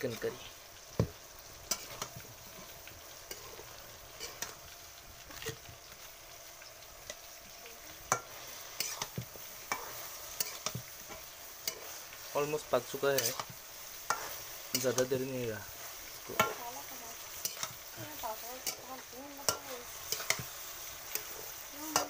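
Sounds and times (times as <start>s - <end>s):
food sizzling in a pan: 0.0s - 22.0s
steel ladle scraping a pan: 1.6s - 5.7s, 8.1s - 22.0s.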